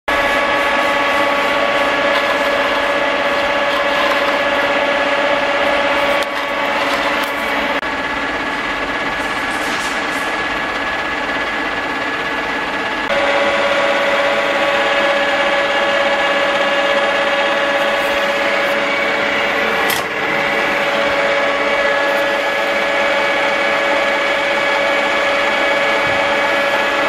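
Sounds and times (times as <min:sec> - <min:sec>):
milling machine whine and hum: 0:00.1 - 0:27.0.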